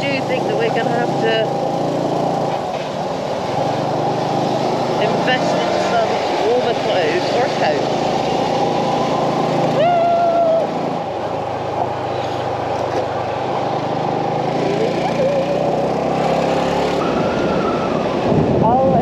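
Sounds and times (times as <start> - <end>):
motorbike engine running: 0.0 - 17.4
road noise: 0.0 - 19.0.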